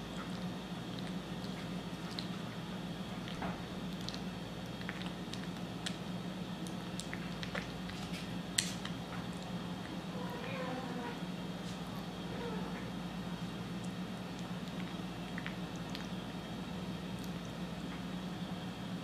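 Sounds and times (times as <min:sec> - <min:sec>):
kitten chewing wet food: 0:00.0 - 0:18.7
steady low hum: 0:00.0 - 0:19.0.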